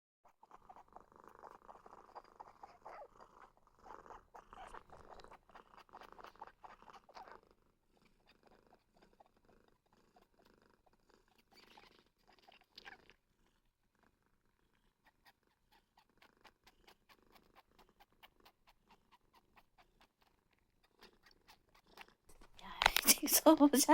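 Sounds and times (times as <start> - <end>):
cat purring: 0.3 - 23.9.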